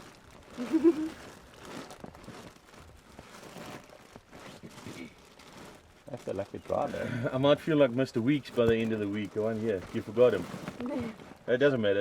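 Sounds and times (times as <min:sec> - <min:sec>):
gear bag rustling and crinkling: 0:00.0 - 0:12.0.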